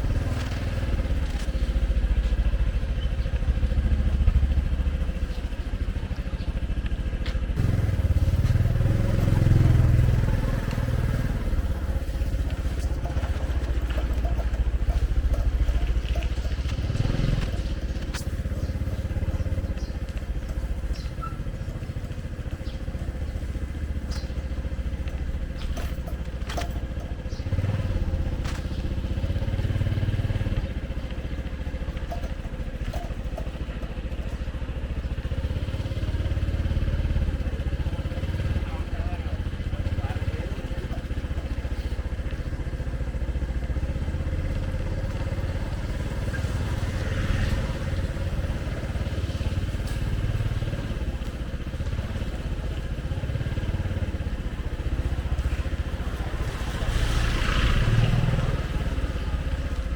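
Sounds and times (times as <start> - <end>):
light clicks and clatter: 0.0 - 59.9
motorbike engine running: 0.0 - 59.9
street traffic: 0.0 - 59.9.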